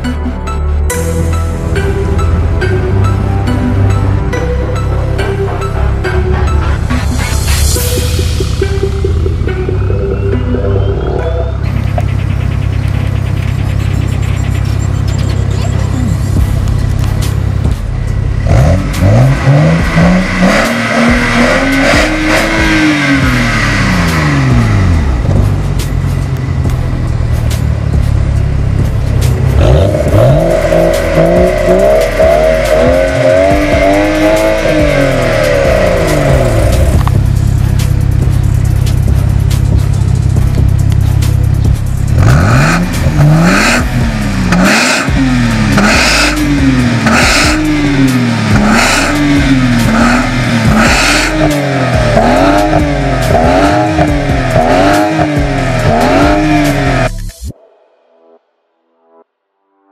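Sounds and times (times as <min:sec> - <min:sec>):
car engine revving: 0:00.9 - 0:57.5.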